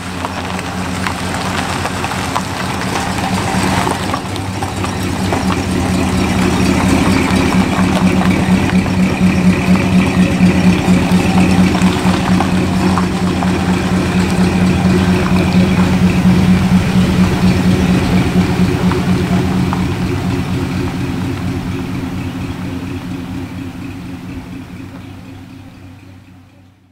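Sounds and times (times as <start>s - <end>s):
car engine burbling: 0.0s - 26.9s.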